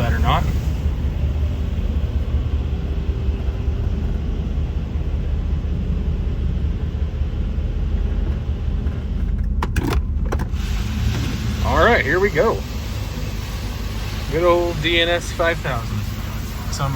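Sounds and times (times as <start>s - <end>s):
car wash machine running: 0.0s - 16.9s
truck engine idling: 0.0s - 16.9s.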